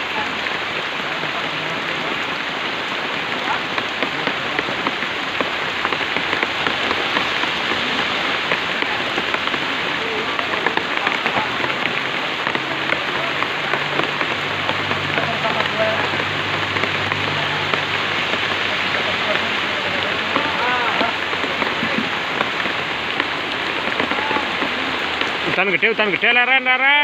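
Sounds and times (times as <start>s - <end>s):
steady rain patter: 0.0s - 27.0s.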